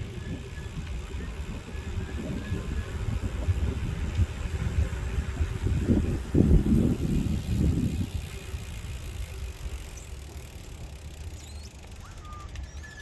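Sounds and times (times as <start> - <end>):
bicycle rolling on pavement: 0.0 - 13.0.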